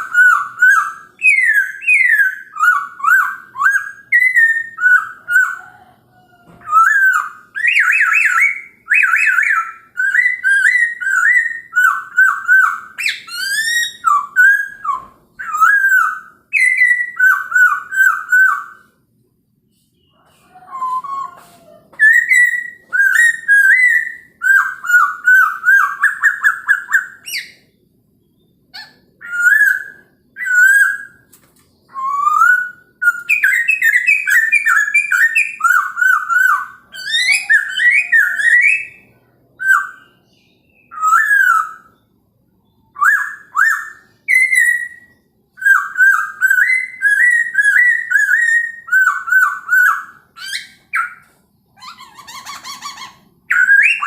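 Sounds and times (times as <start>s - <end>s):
bird singing whistled phrases: 0.0s - 5.8s, 6.6s - 18.9s, 20.0s - 27.7s, 28.3s - 31.2s, 31.8s - 42.0s, 42.6s - 54.0s.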